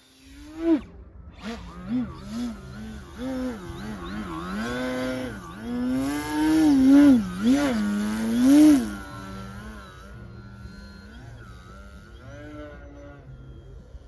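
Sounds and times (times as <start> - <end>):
electric motor and propeller whine: 0.0 - 14.0.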